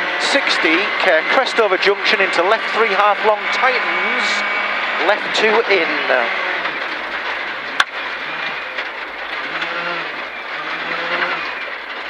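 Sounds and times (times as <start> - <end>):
car engine accelerating through gears: 0.0 - 12.0
gravel and road noise: 0.0 - 12.0.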